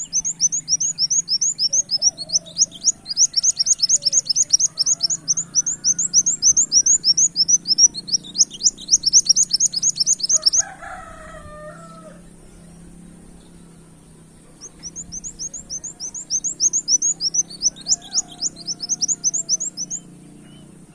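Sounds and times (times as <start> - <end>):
bird chirping: 0.0 - 20.9
low bird warble: 0.0 - 20.9.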